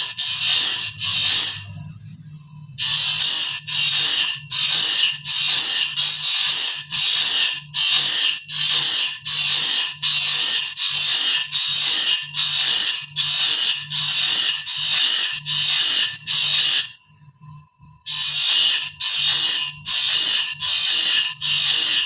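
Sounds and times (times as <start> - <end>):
blade sharpener grinding: 0.0 - 1.7, 2.8 - 17.0, 18.1 - 22.0.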